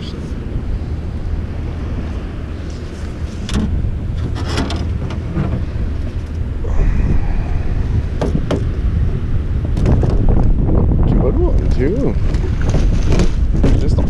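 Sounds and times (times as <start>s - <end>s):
churning water: 0.0s - 14.0s
wind buffeting microphone: 0.0s - 14.0s.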